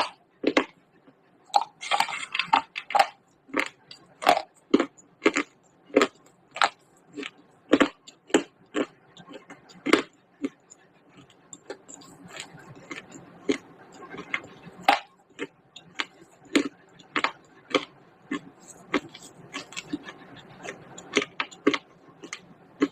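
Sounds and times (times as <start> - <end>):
clay pieces being chewed: 0.0 - 22.9.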